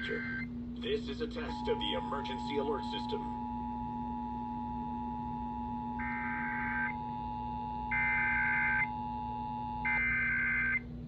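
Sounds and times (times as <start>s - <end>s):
low steady hum: 0.0s - 11.0s
two-tone attention signal: 1.5s - 10.8s.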